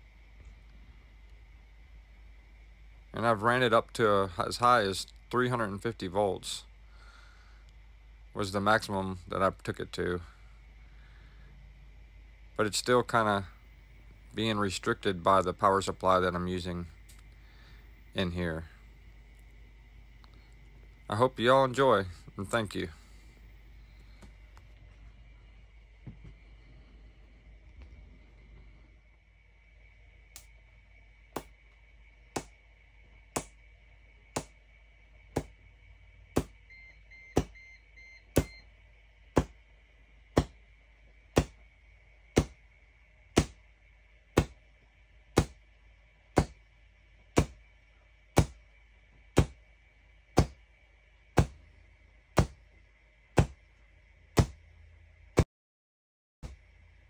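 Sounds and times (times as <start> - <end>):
high whine: 0.0 - 55.4.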